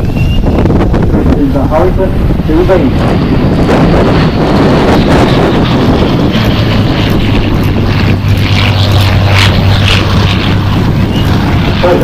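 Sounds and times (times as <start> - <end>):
aircraft engine hum: 0.0 - 12.0
wind noise on microphone: 0.0 - 12.0.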